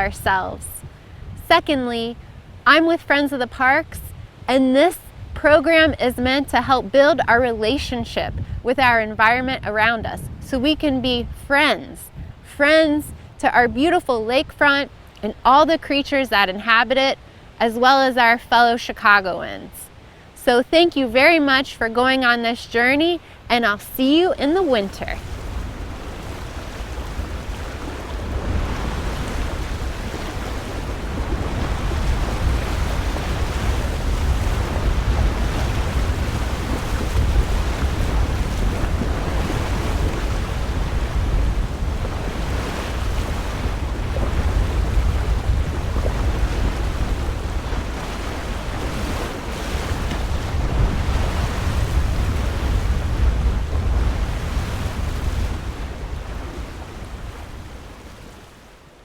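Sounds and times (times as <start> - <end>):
wind buffeting microphone: 0.0 - 16.3, 21.0 - 58.7
waves washing ashore: 0.0 - 59.0.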